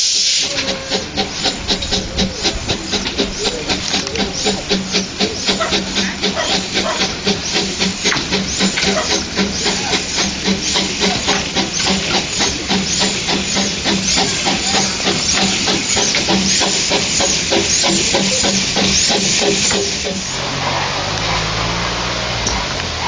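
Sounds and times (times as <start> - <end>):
steam locomotive chuffing: 0.0 - 23.0.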